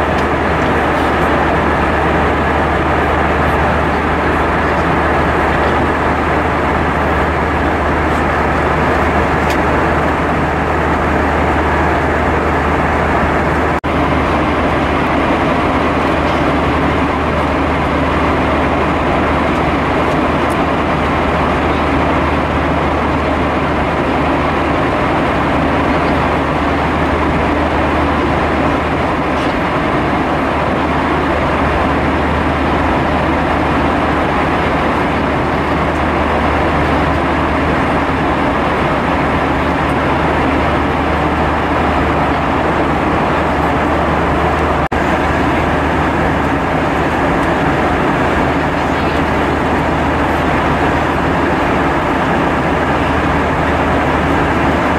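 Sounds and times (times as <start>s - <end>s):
airplane cabin roar: 0.0s - 54.9s.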